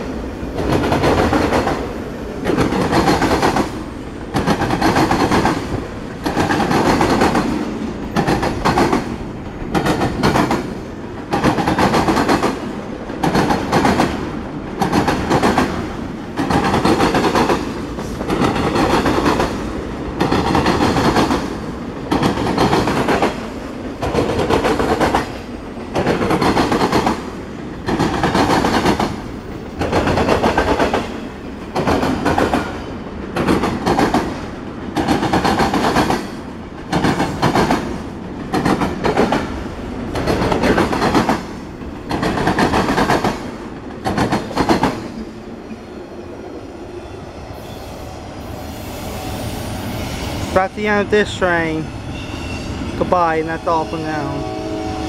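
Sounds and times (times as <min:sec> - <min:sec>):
freight train wheels clattering: 0:00.6 - 0:23.4, 0:24.0 - 0:45.2.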